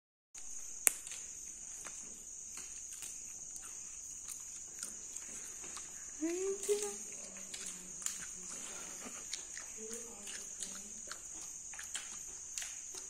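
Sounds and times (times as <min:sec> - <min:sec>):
crickets chirring: 0:00.4 - 0:13.0.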